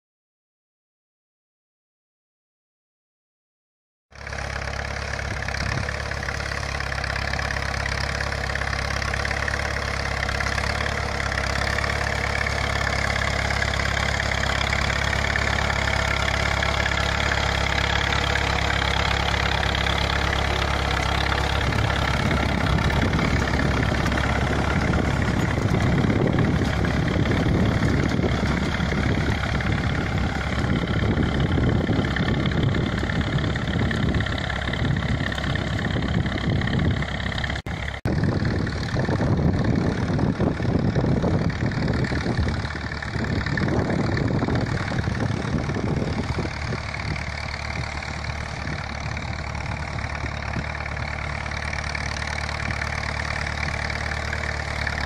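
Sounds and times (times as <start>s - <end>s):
rough irregular low rumble: 4.2s - 55.0s
tractor engine running: 4.2s - 55.0s.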